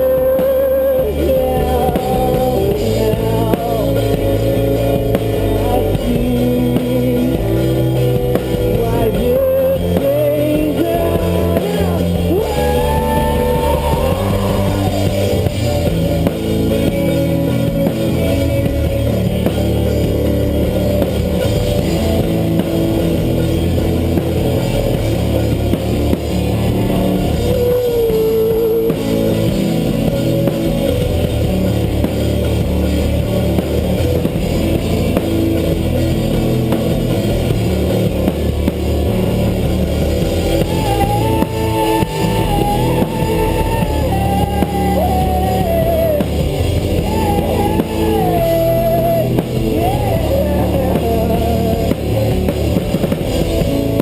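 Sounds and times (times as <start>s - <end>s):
rock band playing live: 0.0s - 54.0s
gliding guitar line bending upward: 1.0s - 54.0s.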